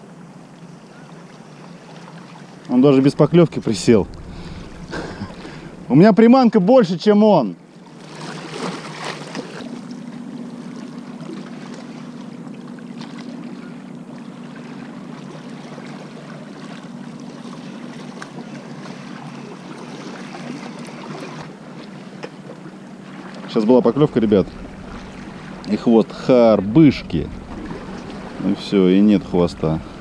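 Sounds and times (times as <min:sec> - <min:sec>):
steady low hum: 0:00.0 - 0:08.2, 0:09.4 - 0:30.0
wind: 0:00.0 - 0:30.0.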